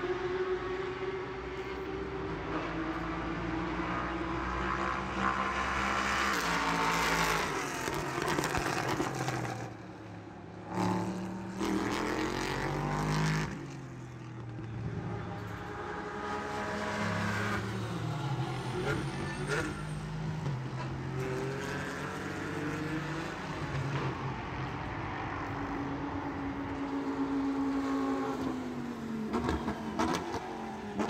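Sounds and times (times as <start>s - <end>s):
racing car engines at high revs: 0.0s - 31.0s.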